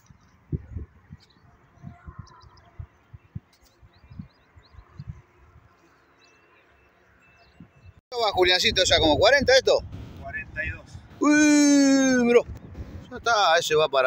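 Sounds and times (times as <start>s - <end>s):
wind buffeting the microphone: 0.0s - 5.8s, 7.4s - 14.0s.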